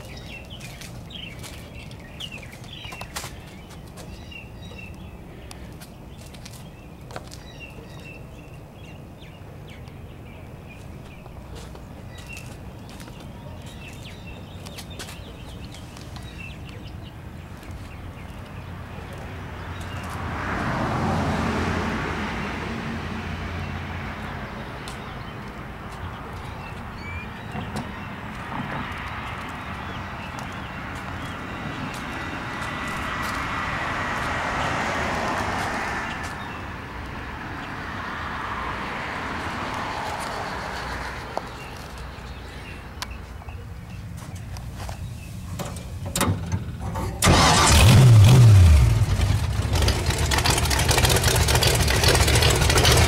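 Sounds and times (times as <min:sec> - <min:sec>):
birds chirping: 0:00.0 - 0:21.2, 0:23.2 - 0:53.0.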